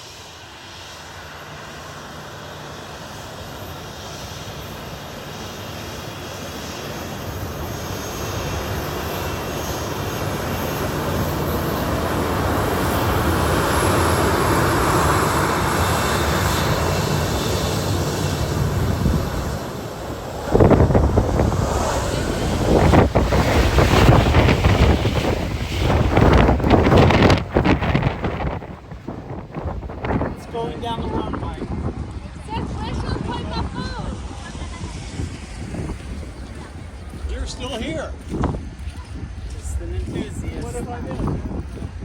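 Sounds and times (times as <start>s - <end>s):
low-flying airplane engines: 0.0s - 42.0s.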